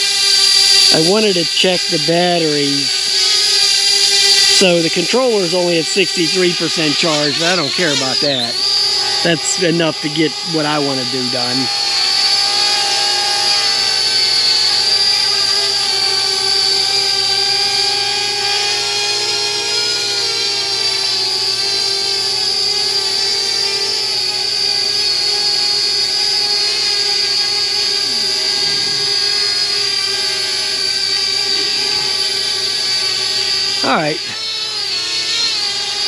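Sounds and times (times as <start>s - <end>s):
drone propellers whining: 0.0s - 36.0s.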